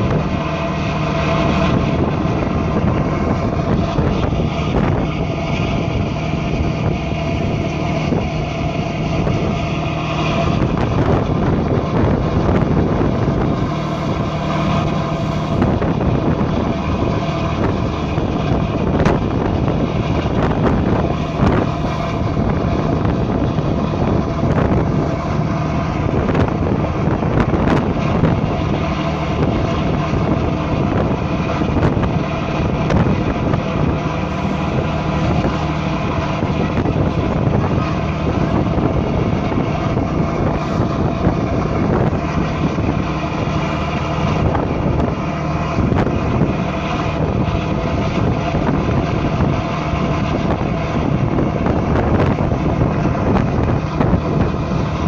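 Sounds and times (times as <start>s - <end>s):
boat engine humming: 0.0s - 55.0s
wind buffeting microphone: 0.0s - 55.0s.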